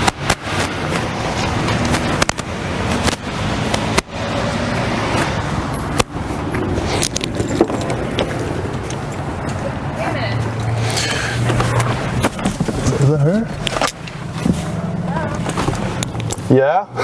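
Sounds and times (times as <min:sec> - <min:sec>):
car engine running: 0:00.0 - 0:16.5
street noise: 0:00.0 - 0:17.0.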